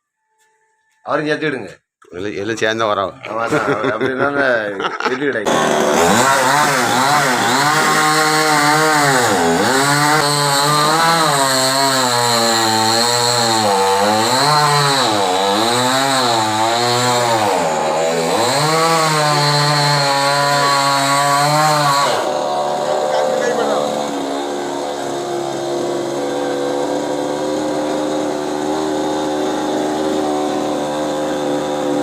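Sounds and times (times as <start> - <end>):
chainsaw cutting into tree trunk: 5.4 - 32.0.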